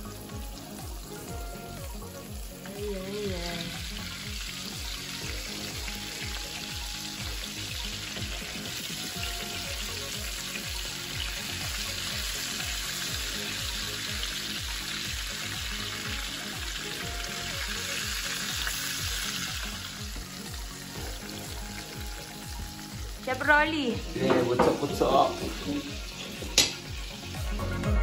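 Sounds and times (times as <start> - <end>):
squid sizzling in hot oil: 0.0 - 27.9
background music with low beat: 0.0 - 28.0.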